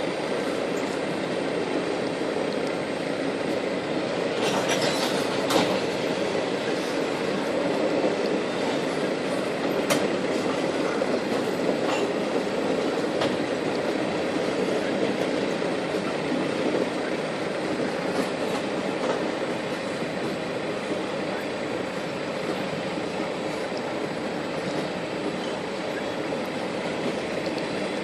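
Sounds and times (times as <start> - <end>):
train cars rumbling past: 0.0 - 28.0
wheels clicking on tracks: 0.4 - 28.0.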